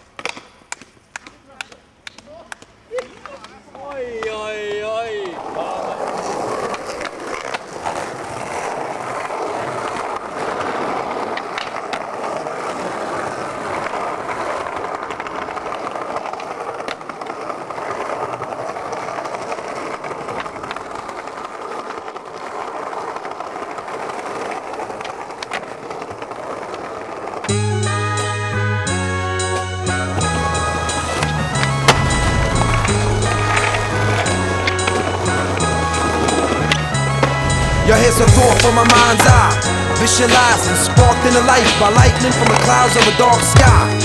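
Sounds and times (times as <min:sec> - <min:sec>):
skateboard clacks: 0:00.0 - 0:44.0
skateboard wheels rolling on pavement: 0:00.0 - 0:44.0.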